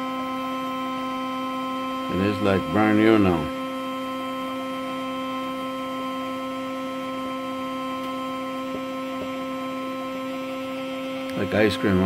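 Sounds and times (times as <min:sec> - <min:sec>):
machine motor humming: 0:00.0 - 0:12.0.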